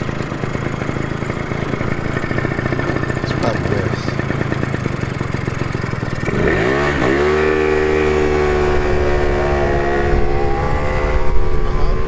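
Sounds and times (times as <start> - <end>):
scooter engine revving: 0.0 - 12.0.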